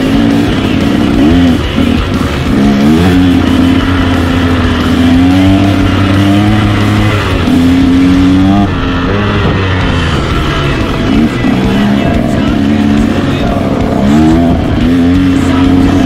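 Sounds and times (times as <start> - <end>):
dirt bike engine revving: 0.0 - 16.0
music playing: 0.0 - 16.0.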